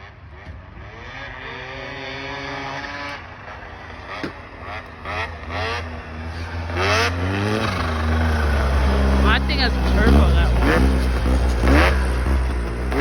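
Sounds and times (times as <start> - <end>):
snowmobile engines revving: 0.0 - 13.0.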